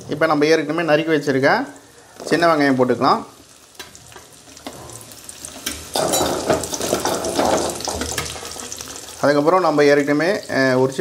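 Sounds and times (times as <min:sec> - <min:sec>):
oil sizzling and crackling: 0:00.6 - 0:11.0.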